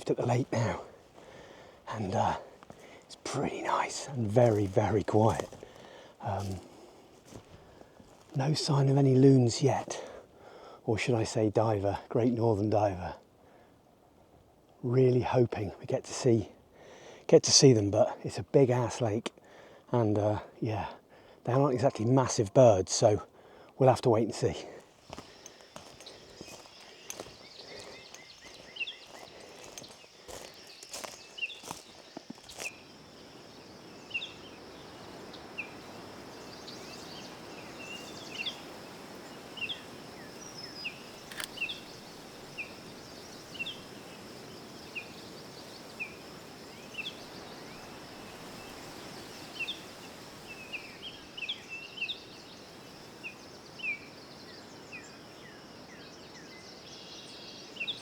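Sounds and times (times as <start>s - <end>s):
soft hiss: 0.0s - 11.9s, 23.0s - 58.0s
small birds chirping: 0.0s - 13.6s, 18.3s - 58.0s.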